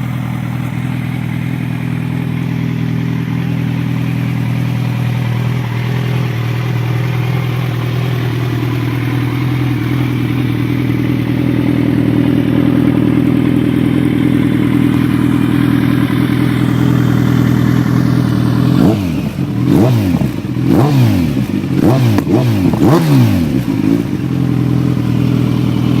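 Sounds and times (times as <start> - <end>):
motorcycle engine idling: 0.0 - 26.0
motorcycle throttle blips: 0.0 - 26.0.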